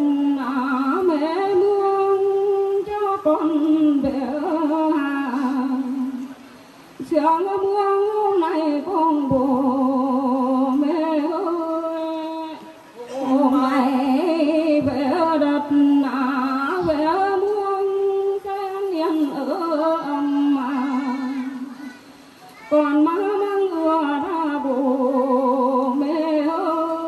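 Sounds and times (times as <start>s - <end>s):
woman singing unaccompanied: 0.0s - 6.4s, 7.0s - 22.0s, 22.6s - 27.0s.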